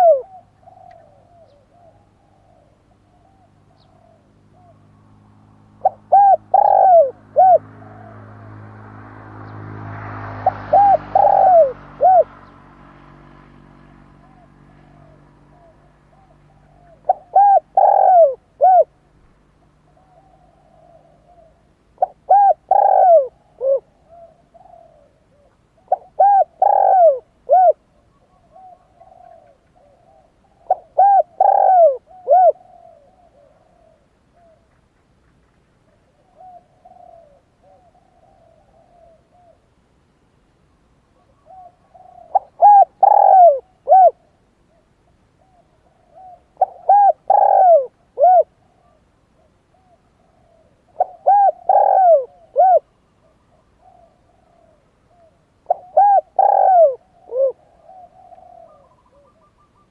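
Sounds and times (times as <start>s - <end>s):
dove cooing: 0.0s - 40.4s, 41.0s - 59.9s.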